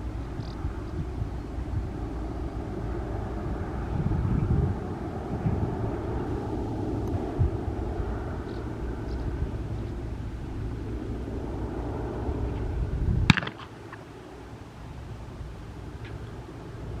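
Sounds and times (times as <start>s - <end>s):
distant turboprop aircraft drone: 0.0s - 17.0s.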